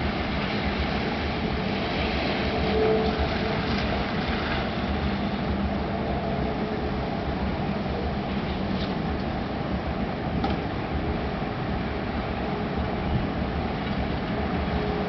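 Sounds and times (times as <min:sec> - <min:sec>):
thunderstorm rumbling: 0:00.0 - 0:15.0.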